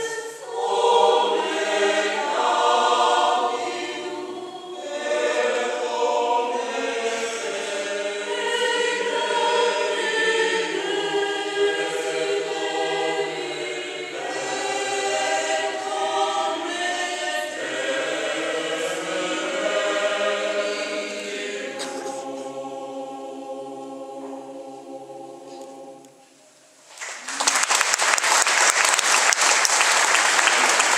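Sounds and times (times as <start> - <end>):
mixed choir singing in harmony: 0.0 - 26.4.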